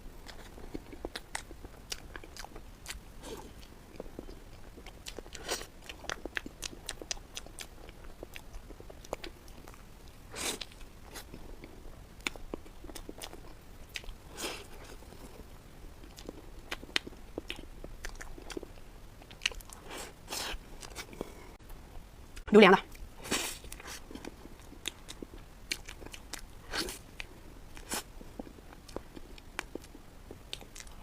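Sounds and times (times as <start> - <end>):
chewing with wet mouth clicks: 0.2 - 21.4, 23.6 - 31.0.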